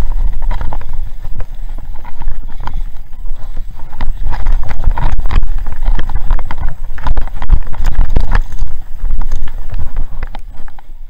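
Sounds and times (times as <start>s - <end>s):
bike rattling over bumps: 0.0s - 11.0s
mountain bike rumbling on dirt trail: 0.0s - 11.0s
wind on microphone: 0.0s - 11.0s.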